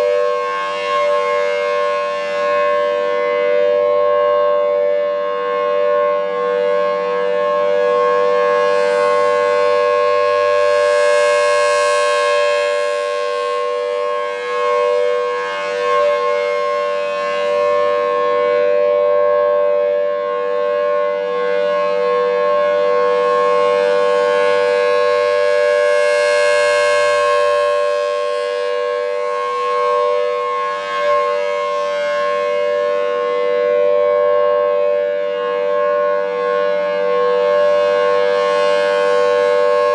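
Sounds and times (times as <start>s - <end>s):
tornado siren wailing: 0.0s - 39.9s.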